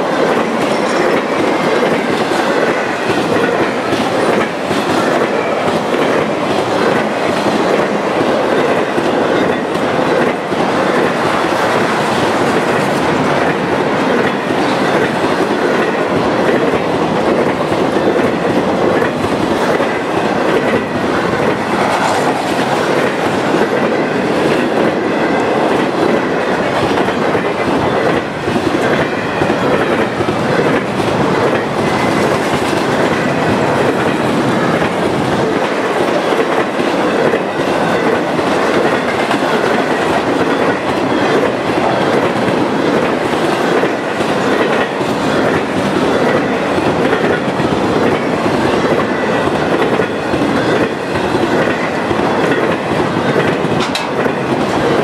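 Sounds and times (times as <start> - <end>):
freight train rolling past: 0.0 - 55.0
wheels clacking over rails: 0.0 - 55.0.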